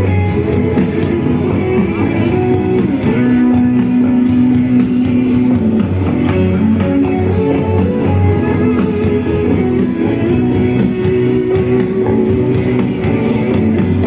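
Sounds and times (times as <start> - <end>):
bass: 0.0 - 14.0
drums: 0.0 - 14.0
guitars: 0.0 - 14.0
live rock band playing: 0.0 - 14.0.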